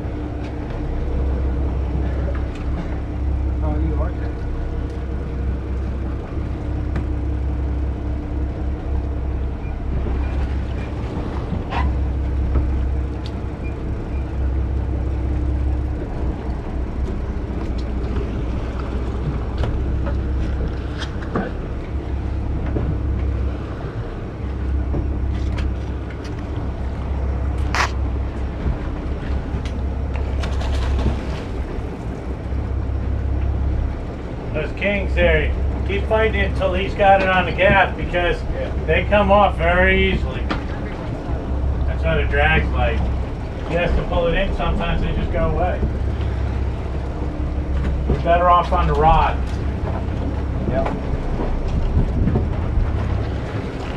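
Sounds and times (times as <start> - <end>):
boat engine rumble: 0.0 - 53.9
wind buffeting microphone: 0.0 - 53.9.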